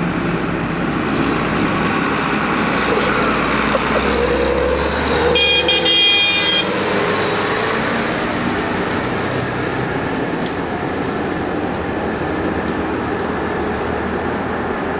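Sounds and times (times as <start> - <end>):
combine harvester running: 0.0 - 14.9.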